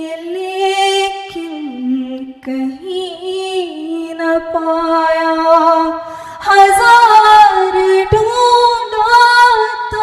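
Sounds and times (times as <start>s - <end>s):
woman singing devotional song: 0.0s - 10.0s.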